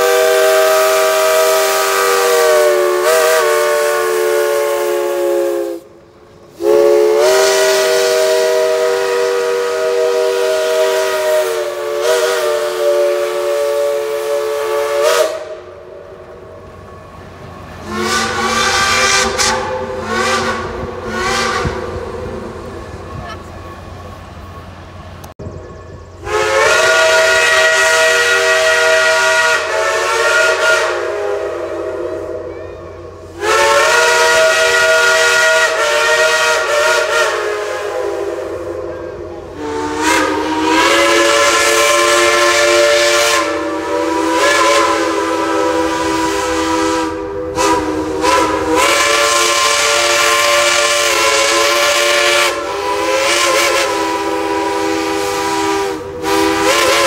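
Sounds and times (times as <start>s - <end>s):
steam whistle blasts: 0.0s - 16.1s, 17.8s - 22.7s, 26.2s - 57.0s.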